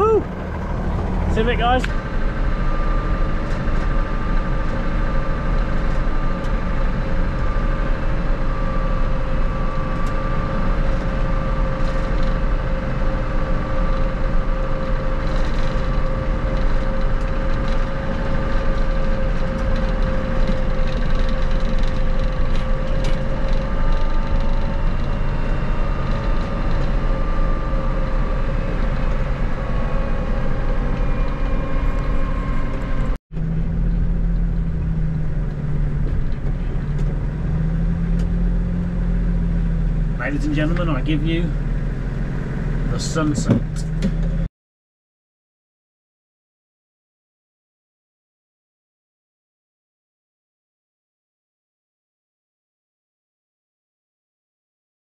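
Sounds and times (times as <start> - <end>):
drivetrain whine: 0.0 - 44.5
tractor engine rumbling: 0.0 - 44.5.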